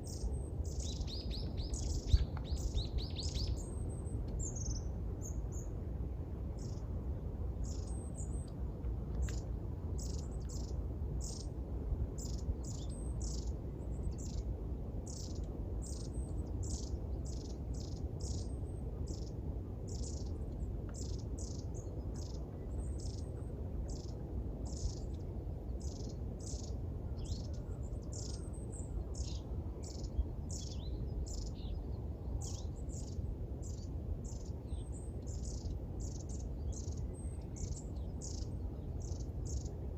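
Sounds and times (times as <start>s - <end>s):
low background rumble: 0.0s - 39.9s
small songbirds chirping: 0.0s - 39.9s.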